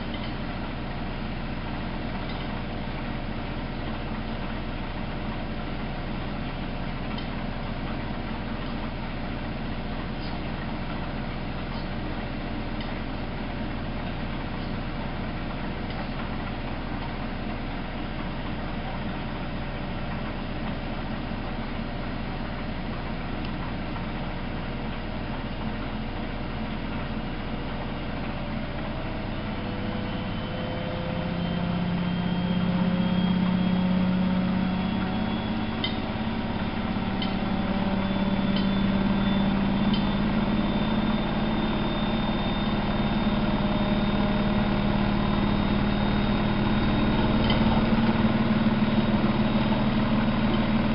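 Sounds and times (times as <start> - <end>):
washing machine hum: 0.0 - 50.9.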